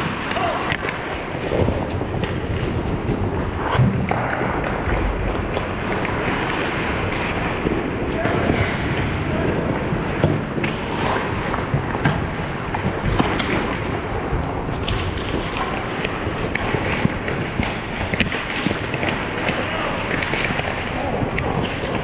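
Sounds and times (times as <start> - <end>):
skate blades scraping ice: 0.0 - 22.0
sticks and puck clacking: 0.0 - 22.0.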